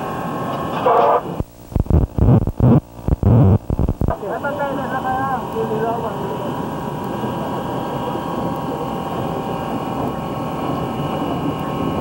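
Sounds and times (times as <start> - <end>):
steam locomotive rumble and hiss: 0.0 - 12.0.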